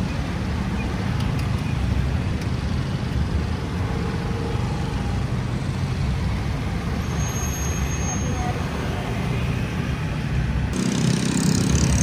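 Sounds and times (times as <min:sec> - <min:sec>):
heavy road traffic rumble: 0:00.0 - 0:12.0.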